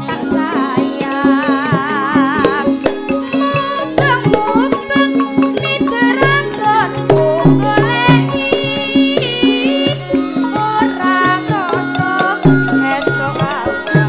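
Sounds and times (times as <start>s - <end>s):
drums beating a steady rhythm: 0.0s - 14.0s
gamelan ensemble: 0.0s - 14.0s
girl singing into a microphone: 0.0s - 14.0s.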